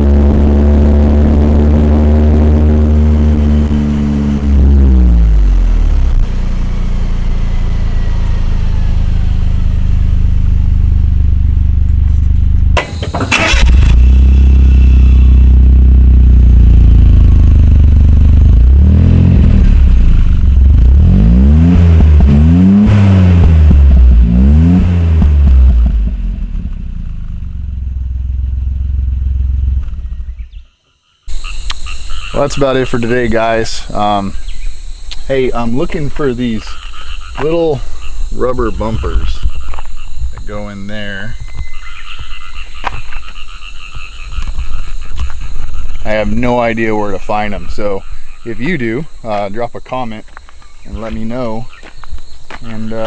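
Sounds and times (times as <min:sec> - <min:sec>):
car engine idling and revving: 0:00.0 - 0:30.6, 0:31.3 - 0:53.0.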